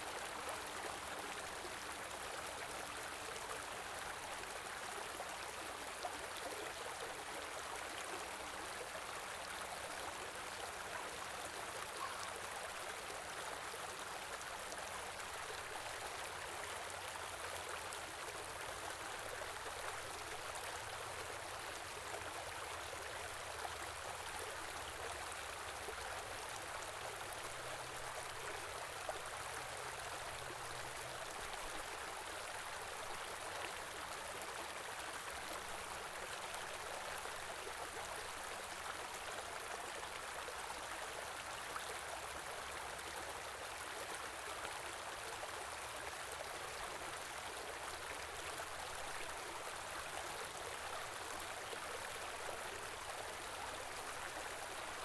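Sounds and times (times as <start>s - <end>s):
stream trickling water: 0.0s - 55.0s.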